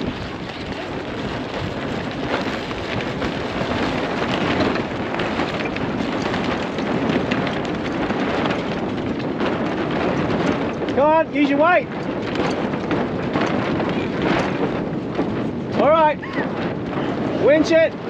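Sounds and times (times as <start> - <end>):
sail rustling and flapping: 0.0 - 18.0
wind buffeting microphone: 0.0 - 18.0.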